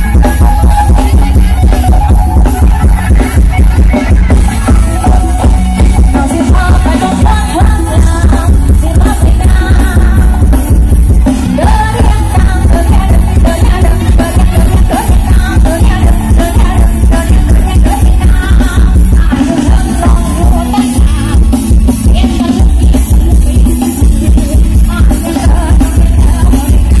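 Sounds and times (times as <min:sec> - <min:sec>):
loud dance music: 0:00.0 - 0:27.0
person singing: 0:00.0 - 0:27.0
pounding bass: 0:00.0 - 0:27.0.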